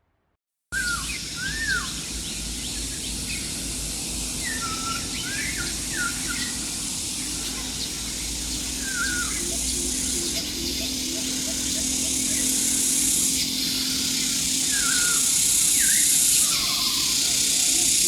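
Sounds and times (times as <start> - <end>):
birds singing: 0.8 - 18.0
steady background hiss: 0.8 - 18.0.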